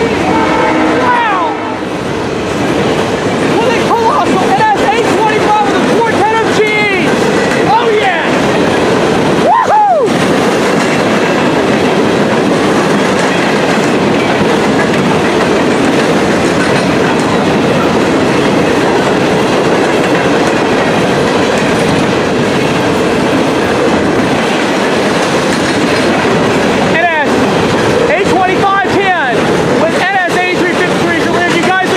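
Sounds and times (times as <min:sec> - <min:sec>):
freight train wheels rumbling: 0:00.0 - 0:31.9
rail joint clickety-clack: 0:00.0 - 0:31.9.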